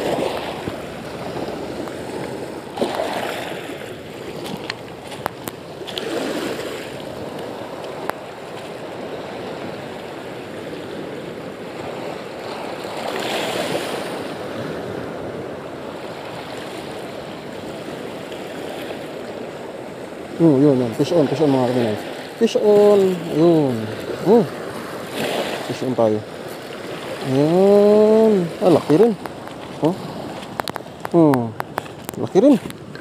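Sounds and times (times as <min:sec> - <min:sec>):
waves washing on shore: 0:00.0 - 0:33.0.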